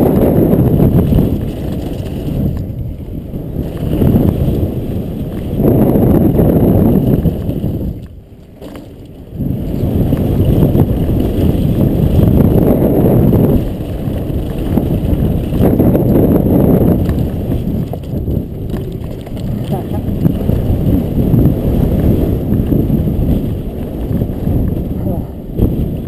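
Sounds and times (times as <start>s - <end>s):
bike tyres rumbling on dirt: 0.0s - 26.0s
wind buffeting microphone: 0.0s - 26.0s.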